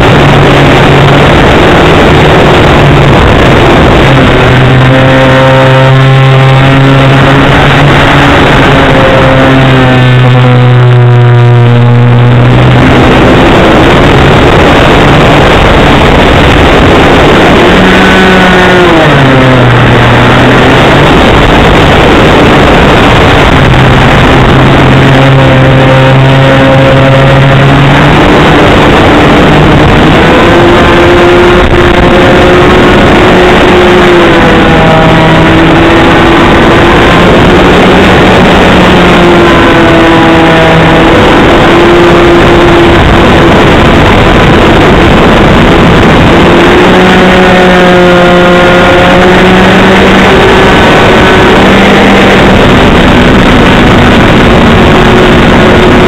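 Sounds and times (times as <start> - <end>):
model airplane engine running: 0.0 - 56.0
wind rush on microphone: 0.0 - 56.0.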